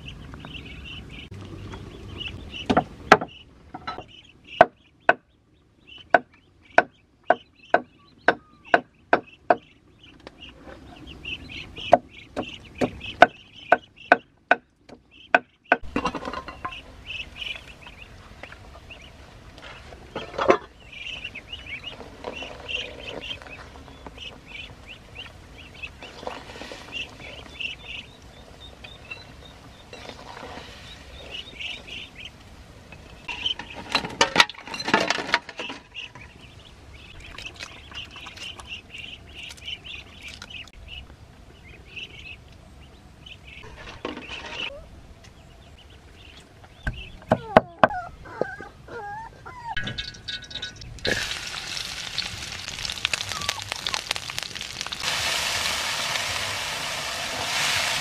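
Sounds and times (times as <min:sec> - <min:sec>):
ducklings peeping: 0:00.0 - 0:34.1, 0:35.5 - 0:49.8, 0:51.6 - 0:55.2.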